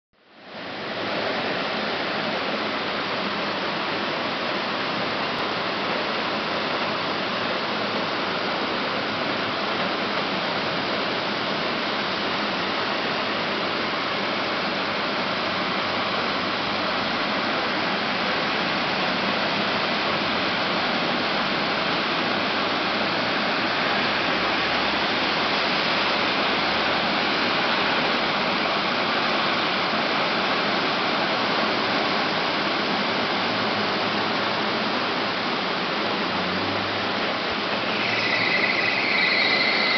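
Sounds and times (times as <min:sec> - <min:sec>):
heavy rain falling: 0:00.3 - 0:39.9.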